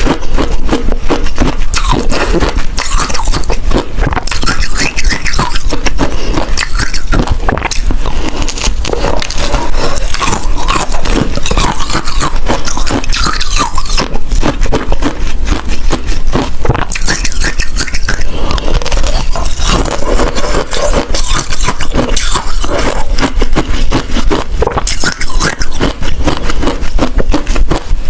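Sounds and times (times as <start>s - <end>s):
ice being chewed: 0.0s - 28.0s.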